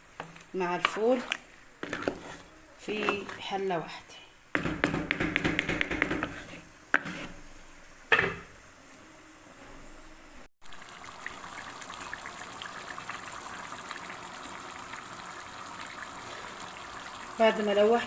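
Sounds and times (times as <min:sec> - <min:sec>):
pot bubbling and crackling: 0:00.0 - 0:08.8, 0:10.6 - 0:18.0.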